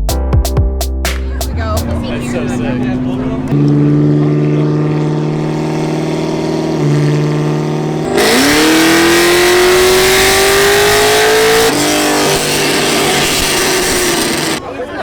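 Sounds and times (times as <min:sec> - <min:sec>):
car engine idling and revving: 0:01.2 - 0:15.0
loud exhaust noise: 0:01.4 - 0:15.0.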